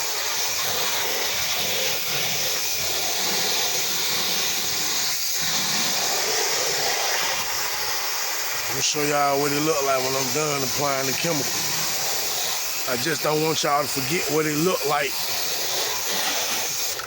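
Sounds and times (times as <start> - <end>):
pressure washer spray hissing: 0.0 - 17.0.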